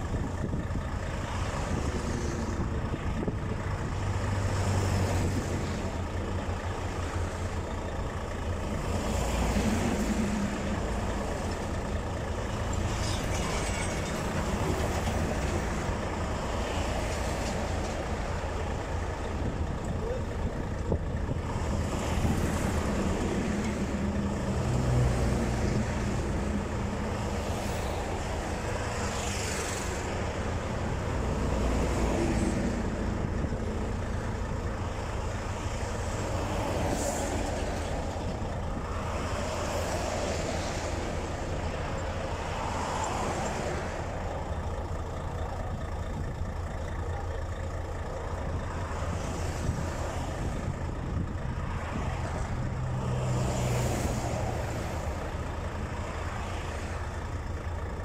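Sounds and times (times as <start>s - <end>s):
low traffic rumble: 0.0s - 58.0s
trucks and cars passing: 0.0s - 58.0s.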